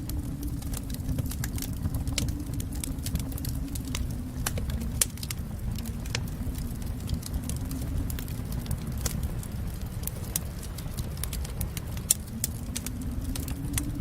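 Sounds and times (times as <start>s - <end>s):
fire crackling and popping: 0.0s - 14.0s
fire flames rumbling: 0.0s - 14.0s.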